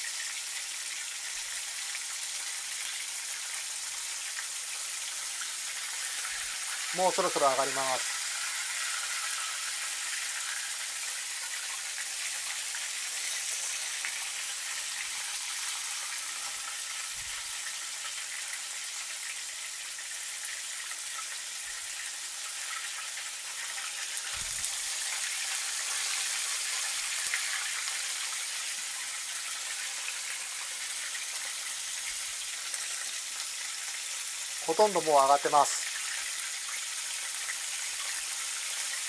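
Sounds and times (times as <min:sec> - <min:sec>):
chicken deep-frying in oil: 0:00.0 - 0:39.0.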